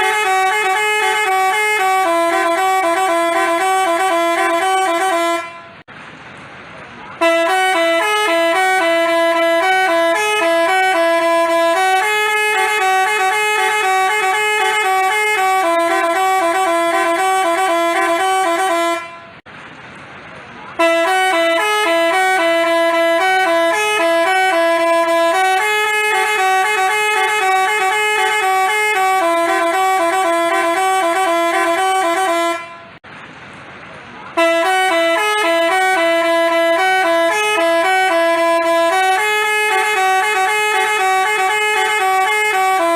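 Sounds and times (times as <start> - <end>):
bus musical horn playing a tune: 0.0 - 5.9, 7.1 - 19.5, 20.7 - 33.0, 34.3 - 42.9.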